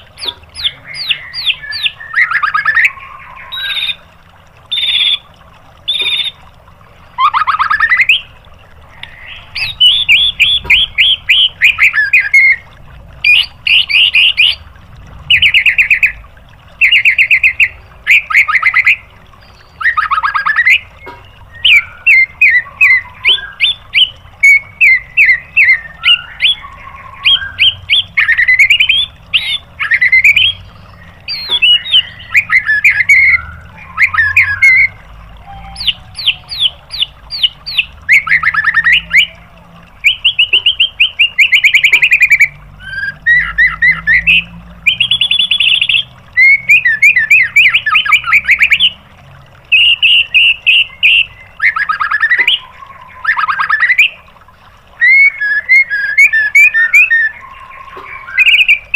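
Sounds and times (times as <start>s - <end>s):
bird singing: 0.0s - 4.1s, 4.7s - 5.2s, 5.8s - 6.4s, 7.0s - 14.6s, 15.3s - 16.2s, 16.8s - 49.0s, 49.7s - 54.3s, 55.0s - 58.9s.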